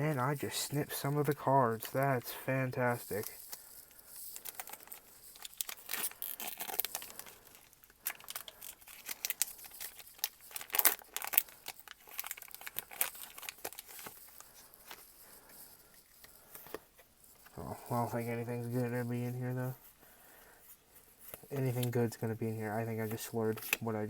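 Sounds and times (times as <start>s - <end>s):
foil wrapper crinkling: 0.0s - 19.8s.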